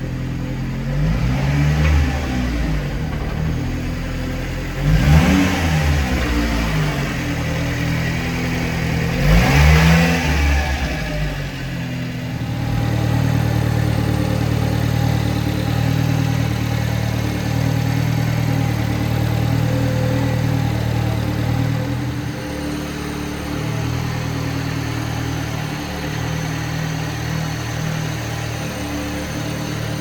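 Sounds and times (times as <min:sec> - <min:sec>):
small truck engine revving: 0:00.0 - 0:30.0.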